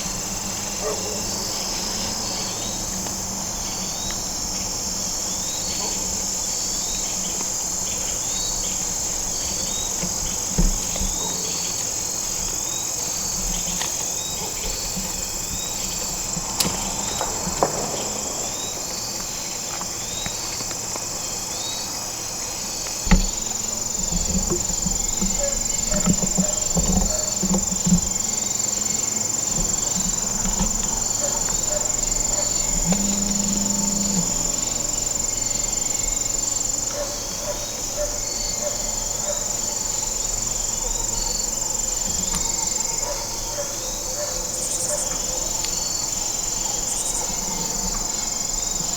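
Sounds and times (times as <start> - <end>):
crickets trilling: 0.0 - 48.9.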